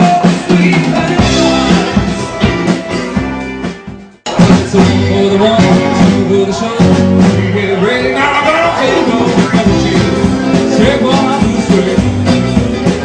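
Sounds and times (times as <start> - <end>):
person singing: 0.0 - 3.0, 4.3 - 13.0
live rock band playing: 0.0 - 13.0.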